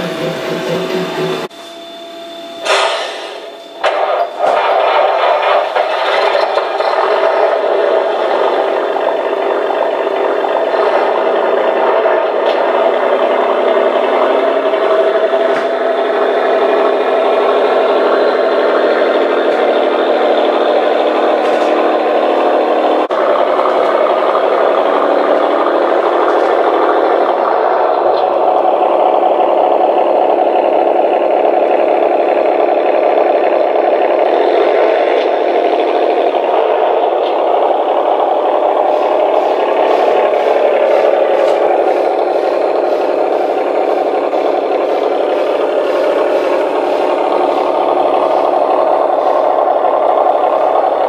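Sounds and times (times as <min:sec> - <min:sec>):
model train running: 0:00.0 - 0:01.5, 0:03.8 - 0:51.0.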